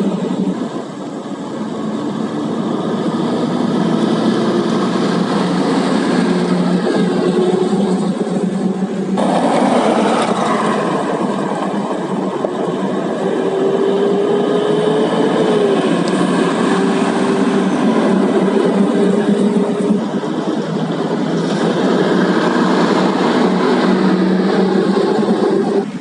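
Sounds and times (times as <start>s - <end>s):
truck diesel engine drone: 0.0s - 26.0s.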